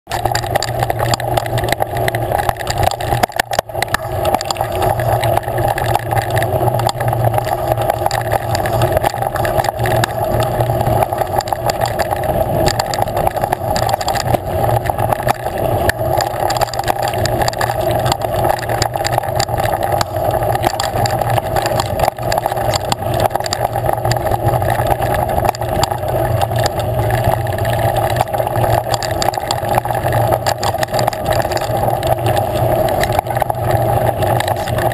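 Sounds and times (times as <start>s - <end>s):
off-road vehicle engine running: 0.1s - 34.9s.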